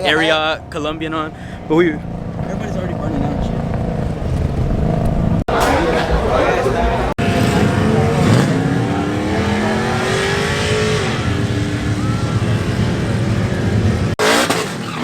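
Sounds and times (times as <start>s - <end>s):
truck engine revving hard: 3.0s - 15.0s.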